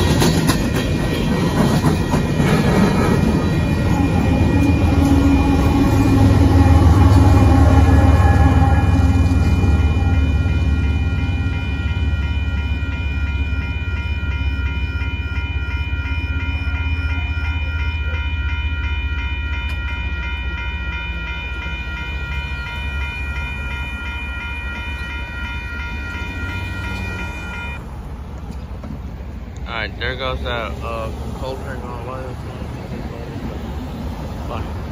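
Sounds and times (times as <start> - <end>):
railroad crossing bell ringing: 0.0 - 27.9, 29.2 - 34.9
train rumbling by: 0.0 - 34.9.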